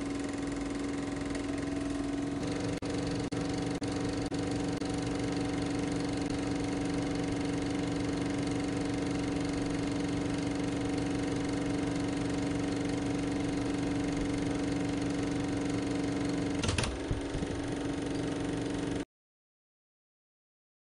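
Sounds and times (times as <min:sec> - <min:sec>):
steady motor-like drone: 0:00.0 - 0:19.0.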